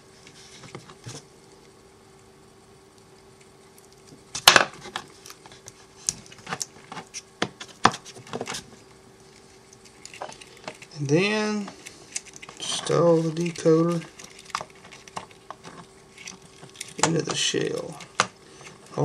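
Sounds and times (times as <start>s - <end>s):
faint steady hum: 0.0s - 19.0s
electrical tape clicks and crackles: 0.2s - 19.0s.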